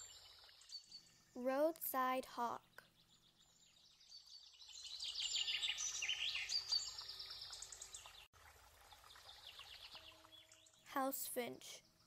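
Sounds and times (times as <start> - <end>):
small birds chirping and trilling: 0.0 - 8.3, 9.0 - 12.0.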